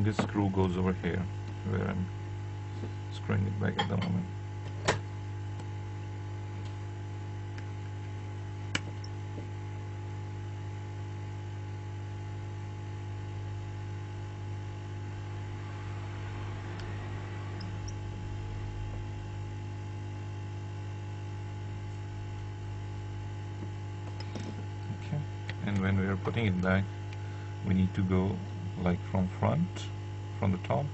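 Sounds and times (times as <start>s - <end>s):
steady electrical hum: 0.0s - 30.9s.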